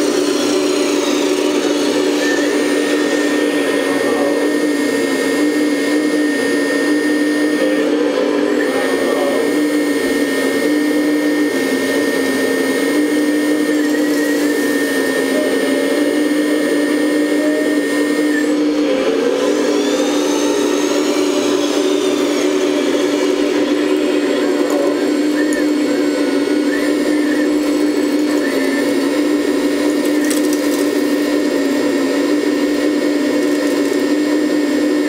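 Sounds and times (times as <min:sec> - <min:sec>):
higher whine: 0:00.0 - 0:35.0
hydraulic pump whining: 0:00.0 - 0:35.0.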